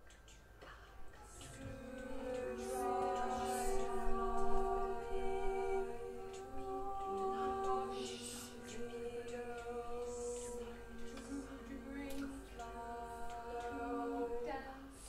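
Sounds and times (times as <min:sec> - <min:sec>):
breathy hiss: 0:00.6 - 0:15.0
voices singing held notes: 0:01.1 - 0:15.0.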